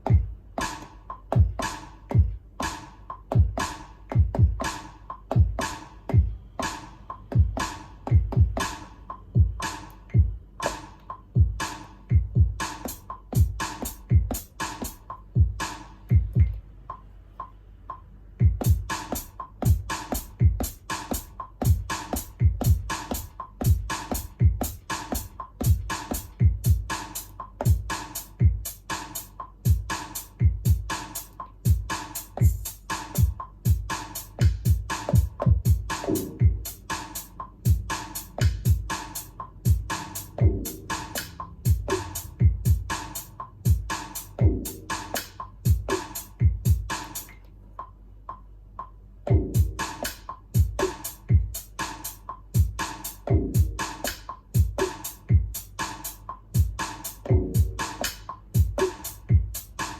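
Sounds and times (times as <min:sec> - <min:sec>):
electro house beat: 0:00.0 - 0:59.9.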